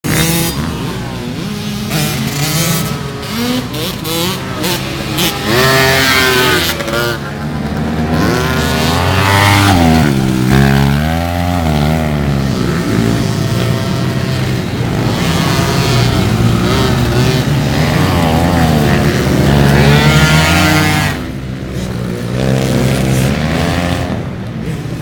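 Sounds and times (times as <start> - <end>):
atv engines revving: 0.0 - 25.0.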